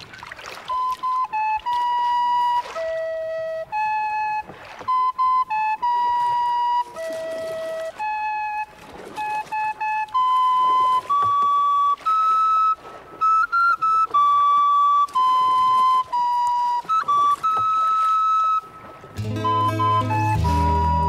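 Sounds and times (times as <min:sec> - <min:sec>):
solo flute melody: 0:00.5 - 0:21.0.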